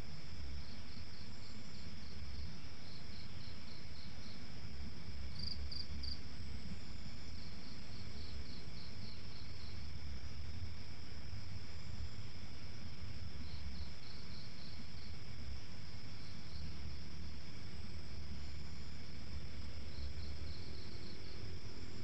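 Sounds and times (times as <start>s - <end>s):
crickets trilling: 0.0s - 22.0s
insect chirps: 0.0s - 22.0s
low steady rumble: 0.0s - 22.0s.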